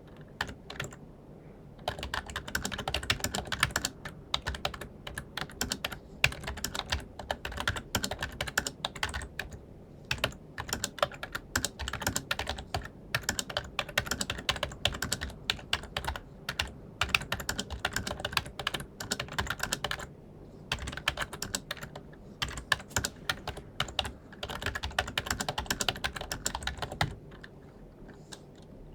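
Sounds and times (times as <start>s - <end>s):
fast keyboard typing: 0.0s - 1.0s, 1.8s - 20.1s, 20.7s - 28.4s.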